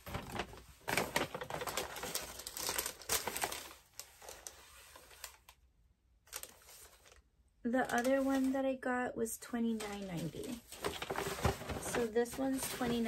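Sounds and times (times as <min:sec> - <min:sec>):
paper crinkling and rustling: 0:00.0 - 0:05.6, 0:06.2 - 0:08.7, 0:09.7 - 0:13.0.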